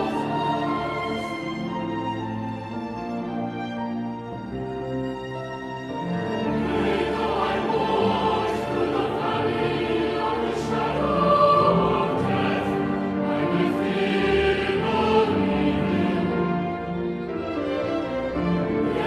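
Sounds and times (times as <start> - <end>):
choir singing sacred music: 0.0 - 3.9, 5.9 - 19.0.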